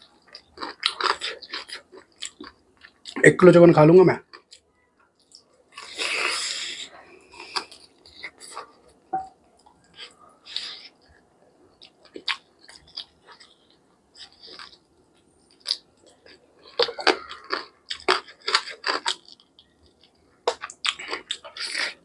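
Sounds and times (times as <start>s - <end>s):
person chewing food: 0.0s - 3.2s, 4.3s - 22.0s.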